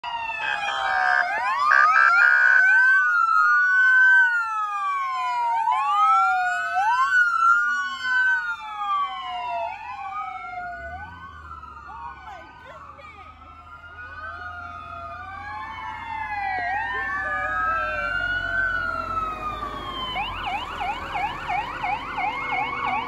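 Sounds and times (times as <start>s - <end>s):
fire truck sirens wailing: 0.0s - 23.0s.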